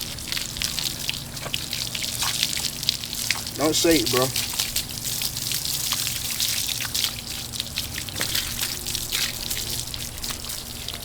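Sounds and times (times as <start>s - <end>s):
water spraying and splashing: 0.0s - 11.0s.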